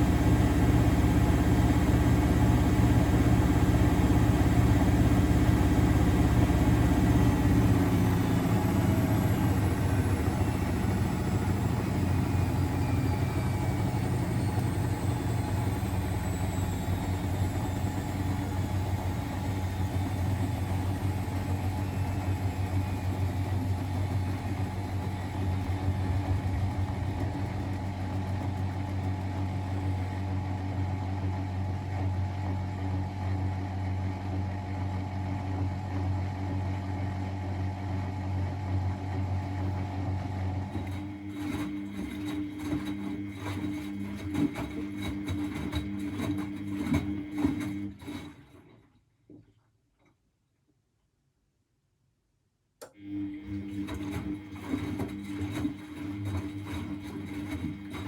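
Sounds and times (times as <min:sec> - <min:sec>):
washing machine humming: 0:00.0 - 0:48.8, 0:52.9 - 0:58.0.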